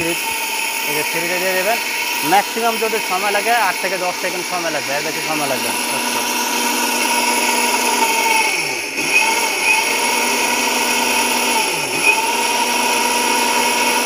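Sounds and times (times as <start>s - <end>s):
mixer grinder motor whine: 0.0s - 14.0s.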